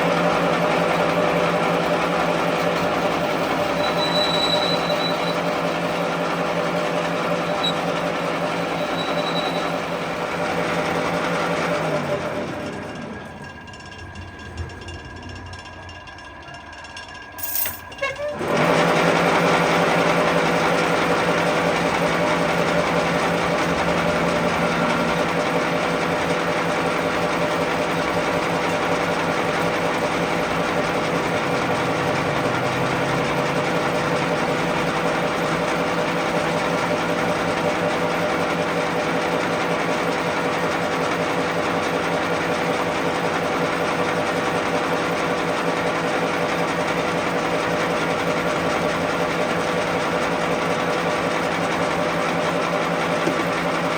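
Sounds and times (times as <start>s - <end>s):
workshop machine motor running: 0.0s - 53.9s.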